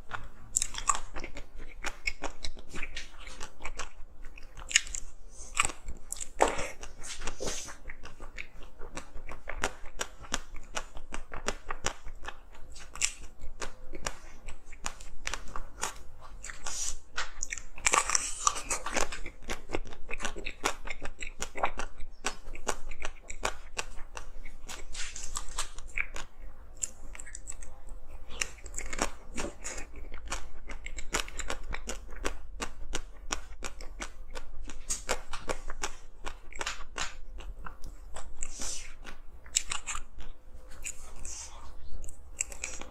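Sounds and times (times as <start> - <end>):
chewing and crunching ice: 0.0 - 42.9.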